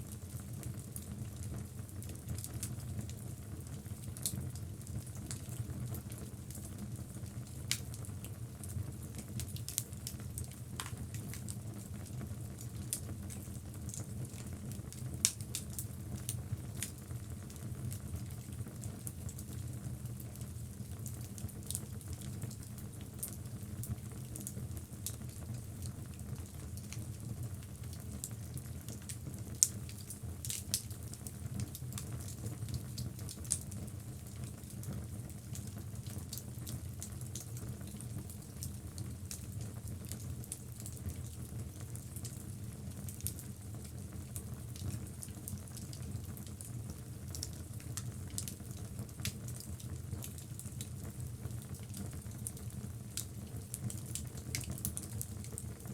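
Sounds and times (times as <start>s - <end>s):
wood crackling and popping: 4.0s - 20.4s, 21.0s - 55.9s.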